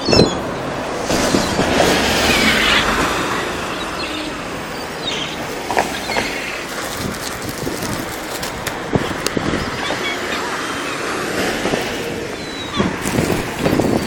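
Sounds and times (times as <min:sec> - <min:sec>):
gulls calling: 0:00.0 - 0:14.0
steady rushing noise: 0:00.0 - 0:14.0.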